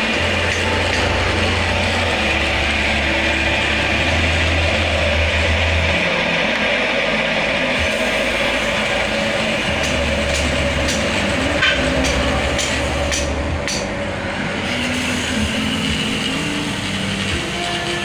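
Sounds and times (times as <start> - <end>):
oil spinner motor humming: 0.0 - 18.0.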